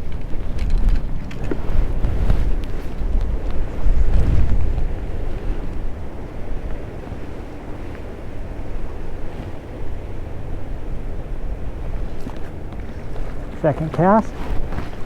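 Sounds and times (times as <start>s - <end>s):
wind rumbling on microphone: 0.0s - 15.0s
creek water rushing: 1.4s - 15.0s.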